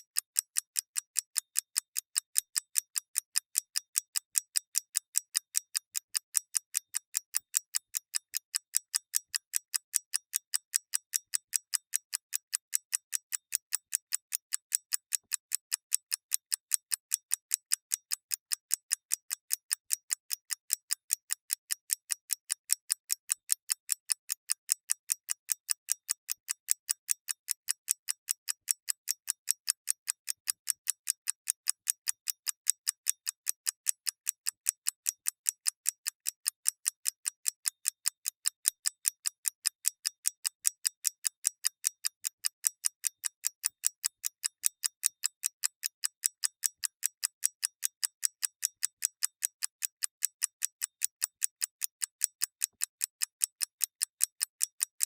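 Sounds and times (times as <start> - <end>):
clock ticking: 0.1 - 55.0.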